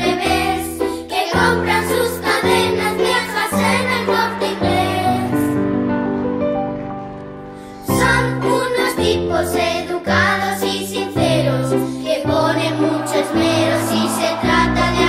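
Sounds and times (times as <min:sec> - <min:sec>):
children singing a song: 0:00.0 - 0:05.8, 0:07.8 - 0:15.0.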